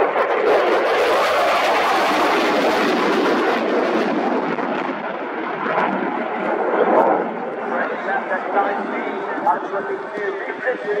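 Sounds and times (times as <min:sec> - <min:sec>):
fighter jet flying past: 0:00.0 - 0:11.0.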